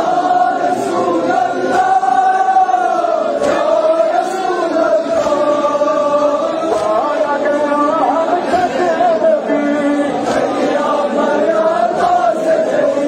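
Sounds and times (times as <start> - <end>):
crowd of men chanting a lament: 0.0 - 13.0.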